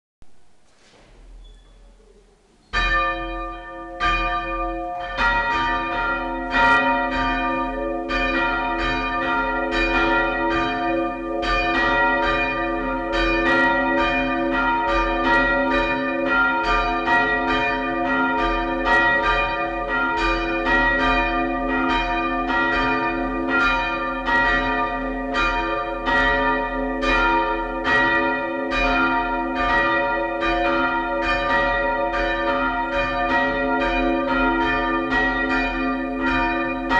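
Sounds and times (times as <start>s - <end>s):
church bells pealing: 2.7s - 36.9s.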